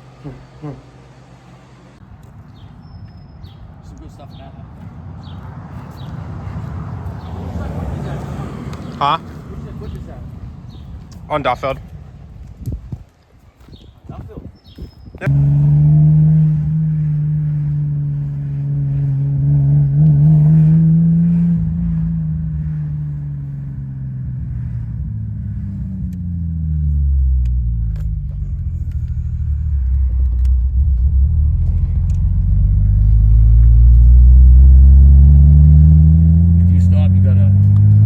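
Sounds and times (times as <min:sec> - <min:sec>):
car engine driving: 0:00.0 - 0:11.9, 0:15.2 - 0:38.0.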